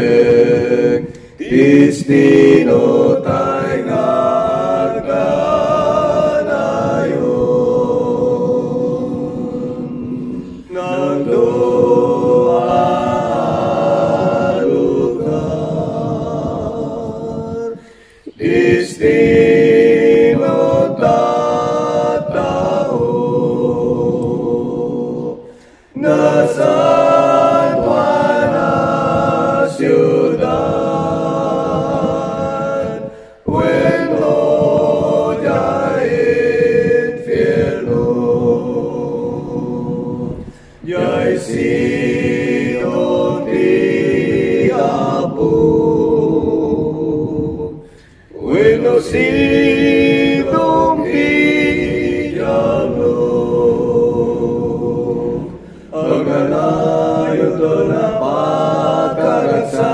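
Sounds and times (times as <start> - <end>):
a cappella choir singing hymn: 0.0 - 59.9.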